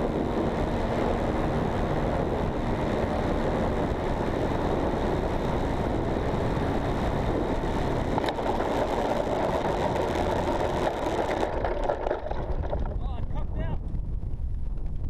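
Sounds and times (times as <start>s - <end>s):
model airplane engine running: 0.0s - 13.5s.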